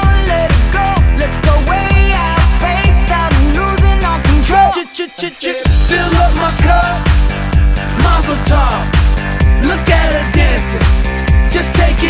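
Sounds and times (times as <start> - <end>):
pop dance music: 0.0 - 12.0.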